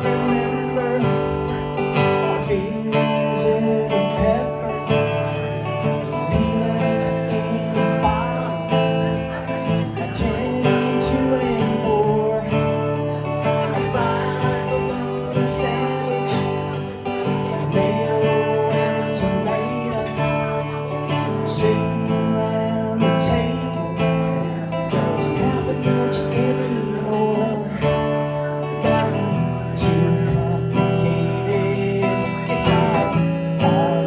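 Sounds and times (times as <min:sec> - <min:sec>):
acoustic guitar strumming: 0:00.0 - 0:34.0.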